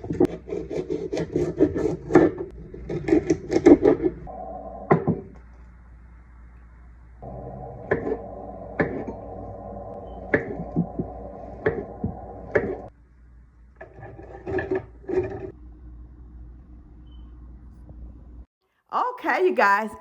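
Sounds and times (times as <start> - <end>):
steady hum: 2.4 - 18.5.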